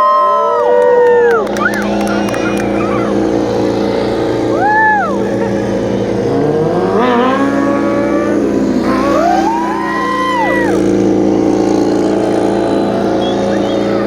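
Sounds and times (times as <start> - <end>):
motorcycle engine idling with revs: 0.7 - 14.0.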